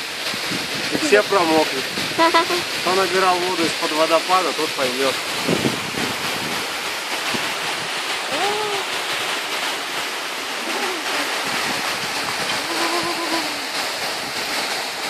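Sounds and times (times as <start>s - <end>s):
waterfall splashing: 0.0s - 15.0s.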